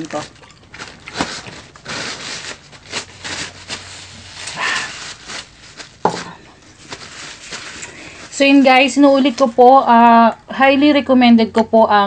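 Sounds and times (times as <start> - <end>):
crispy pork skin crackling: 0.0 - 9.8.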